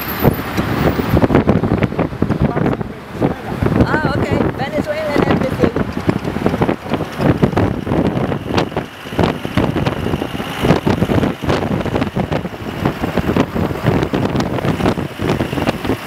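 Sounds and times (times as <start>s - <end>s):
car running: 0.0s - 16.0s
road noise: 0.0s - 16.0s
wind buffeting microphone: 0.0s - 16.0s.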